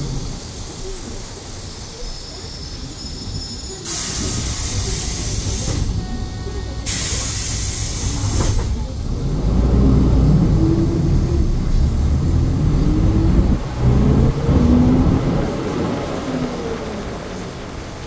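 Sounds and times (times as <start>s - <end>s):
bus engine accelerating: 0.0s - 18.0s.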